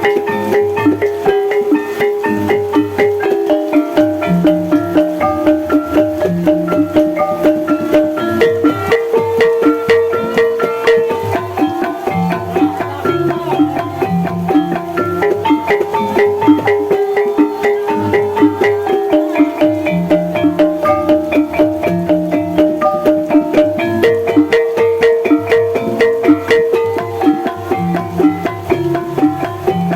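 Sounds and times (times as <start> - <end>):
low drum and bass pattern: 0.0 - 29.9
struck metallophones ringing: 0.0 - 29.9.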